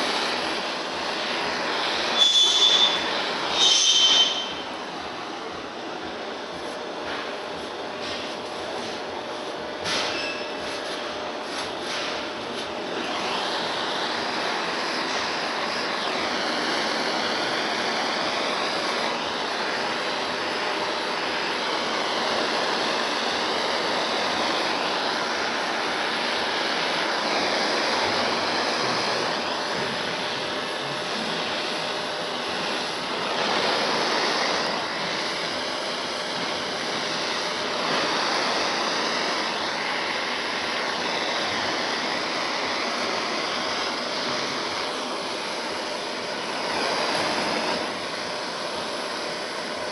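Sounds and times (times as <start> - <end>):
gas torch flame hissing: 0.0 - 49.9.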